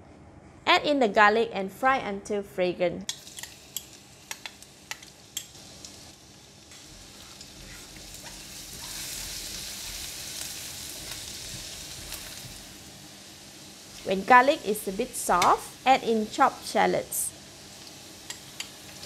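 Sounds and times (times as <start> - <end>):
garlic sizzling in hot oil: 3.1 - 19.0.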